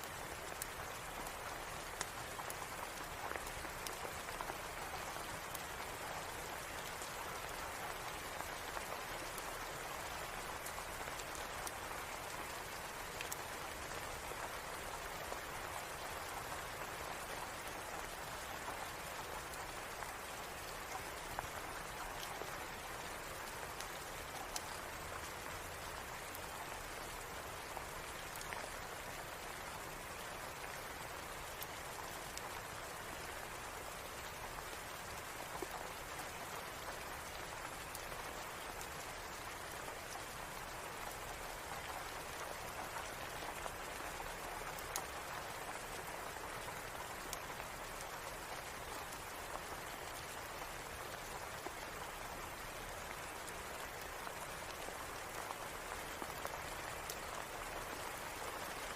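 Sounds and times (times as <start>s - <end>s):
light clicks of raindrops: 0.0s - 58.9s
steady rain falling: 0.0s - 58.9s.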